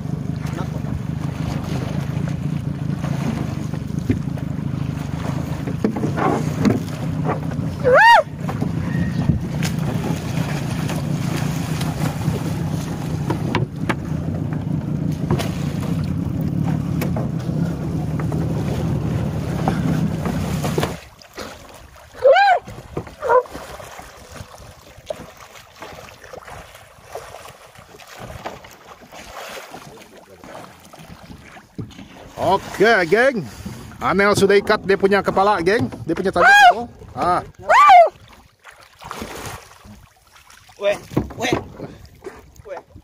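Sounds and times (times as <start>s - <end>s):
small boat motor running: 0.0s - 38.6s
faint water noise: 0.0s - 43.0s.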